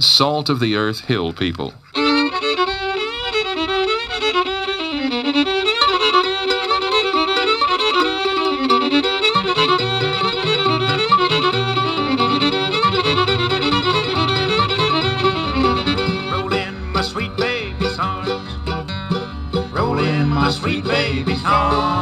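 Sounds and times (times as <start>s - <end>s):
fiddle melody with sliding notes: 1.9s - 22.0s
lower instrumental accompaniment: 2.0s - 22.0s.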